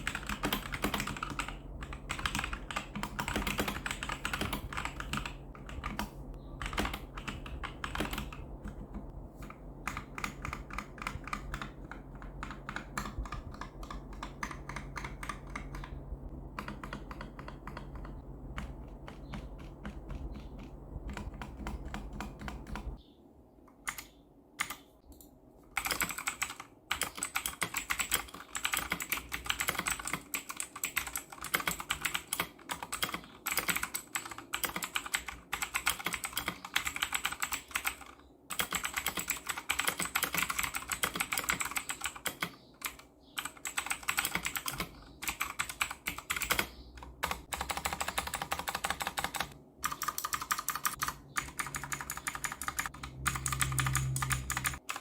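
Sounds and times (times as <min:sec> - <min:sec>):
typing on a mechanical keyboard: 0:00.0 - 0:23.0, 0:23.8 - 0:24.9, 0:25.7 - 0:55.0.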